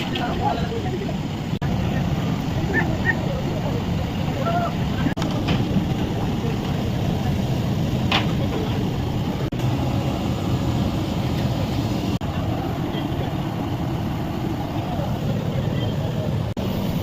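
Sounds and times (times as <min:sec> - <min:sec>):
low rumbling roar: 0:00.0 - 0:17.0.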